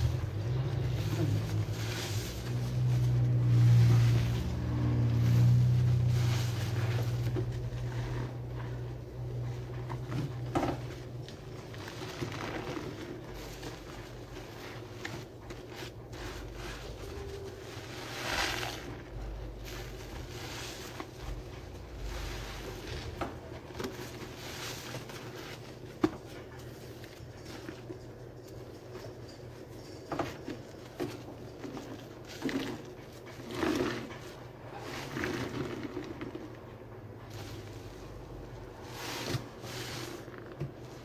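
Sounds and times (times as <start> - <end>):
soapy sponge squishing: 0.0 - 28.0, 30.8 - 41.0.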